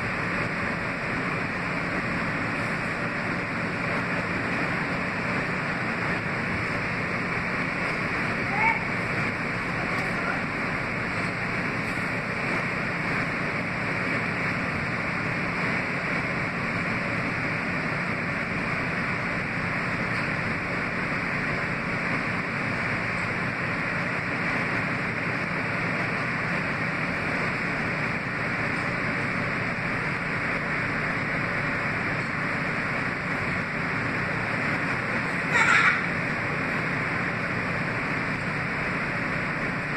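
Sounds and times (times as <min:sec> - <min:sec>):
wheel-on-rail rush: 0:00.0 - 0:39.9.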